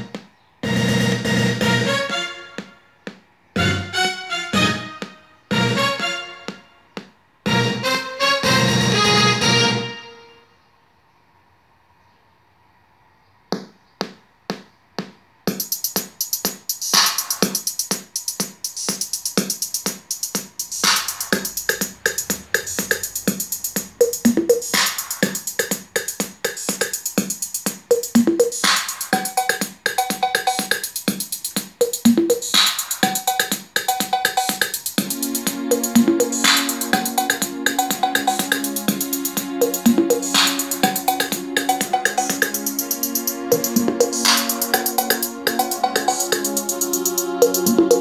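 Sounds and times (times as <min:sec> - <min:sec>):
music with a steady beat: 0:00.0 - 0:10.2, 0:13.5 - 0:48.0.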